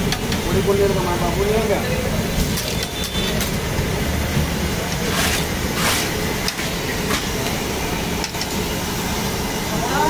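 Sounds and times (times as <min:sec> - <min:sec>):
gas burners rumbling: 0:00.0 - 0:10.0.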